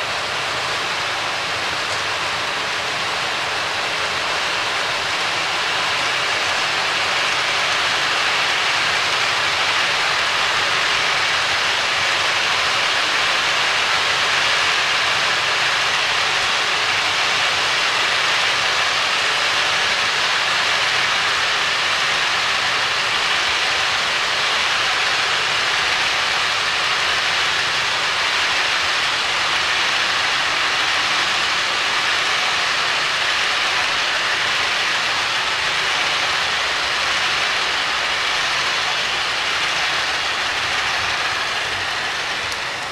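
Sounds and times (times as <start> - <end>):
model train rolling over track: 0.0 - 42.9.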